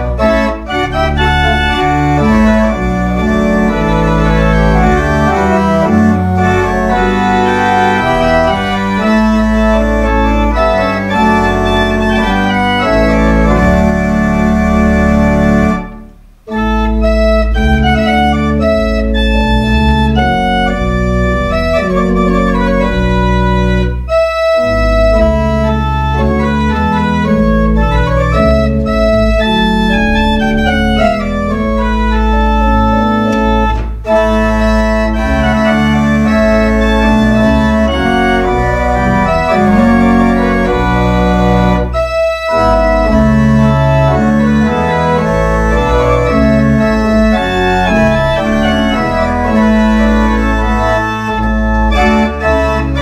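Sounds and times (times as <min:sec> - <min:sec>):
pipe organ playing chords: 0:00.0 - 0:53.0.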